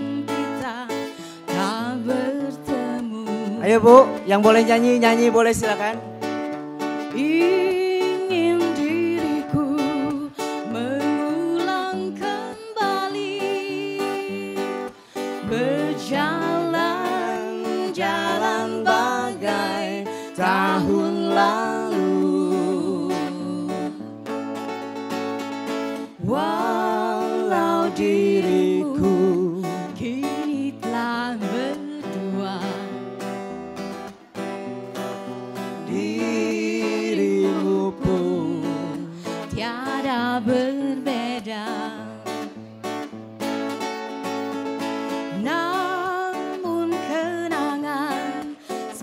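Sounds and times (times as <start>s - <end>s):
acoustic guitar: 0.0s - 49.0s.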